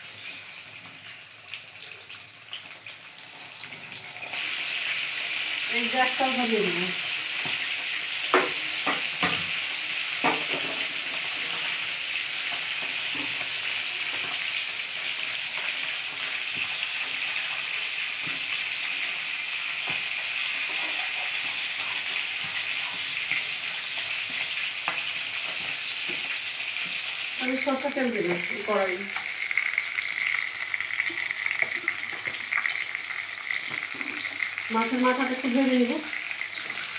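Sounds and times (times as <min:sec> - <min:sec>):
fish sizzling in oil: 0:00.0 - 0:36.9.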